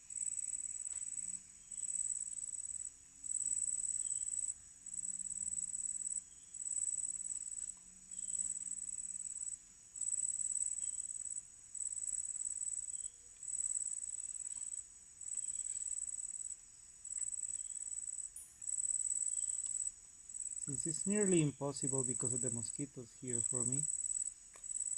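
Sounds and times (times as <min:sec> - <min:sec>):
insect trilling: 0:00.2 - 0:24.9.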